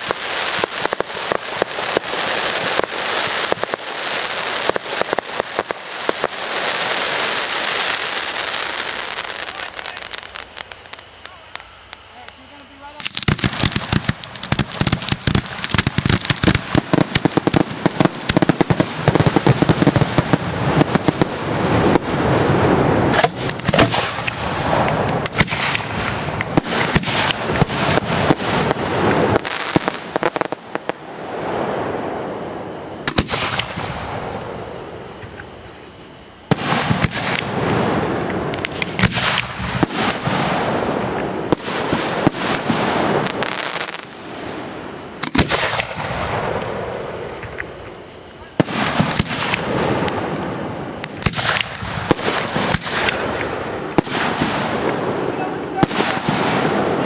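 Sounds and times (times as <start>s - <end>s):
fireworks bursts and cracks: 0.0s - 57.0s.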